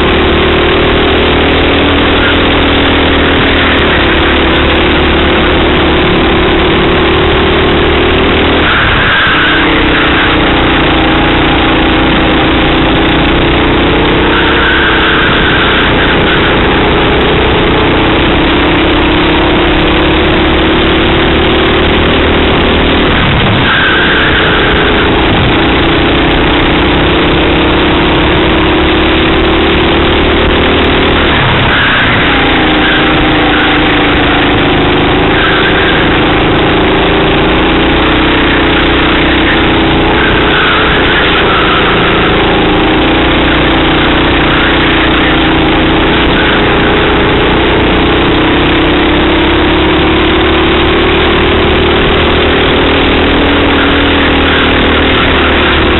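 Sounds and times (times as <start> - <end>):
racing kart engine: 0.0 - 55.9.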